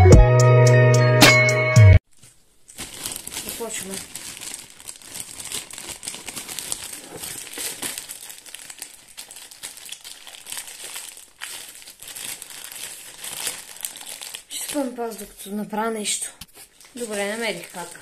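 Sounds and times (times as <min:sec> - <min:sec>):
packaging crinkling and rustling: 0:02.1 - 0:15.5, 0:16.4 - 0:18.0.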